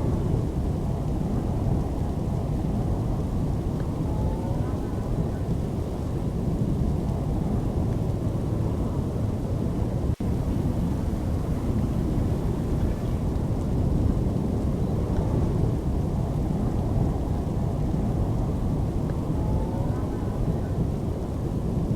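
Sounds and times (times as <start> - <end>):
storm wind on microphone: 0.0 - 21.9.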